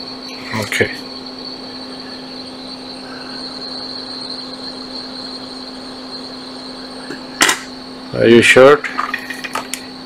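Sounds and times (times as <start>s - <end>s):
high-pitched whine: 0.0s - 10.0s
mechanical hum and hiss: 0.0s - 10.0s.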